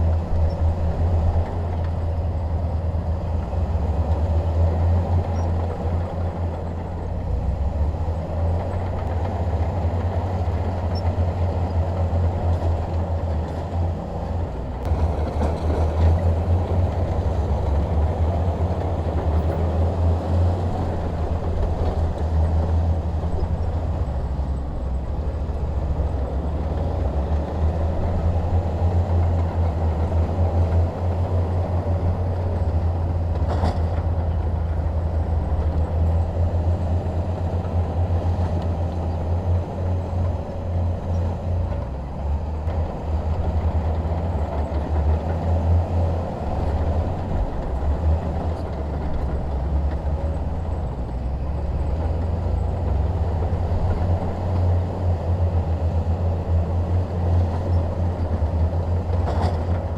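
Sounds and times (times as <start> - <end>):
bulldozer diesel engine droning: 0.0 - 59.9
tracks clattering: 3.6 - 59.9.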